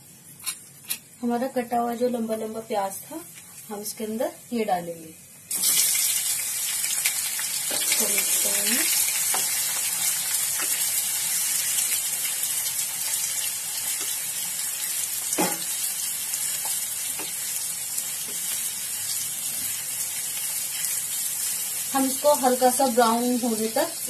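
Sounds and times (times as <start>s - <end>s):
onions sizzling in hot oil: 0.8s - 24.0s.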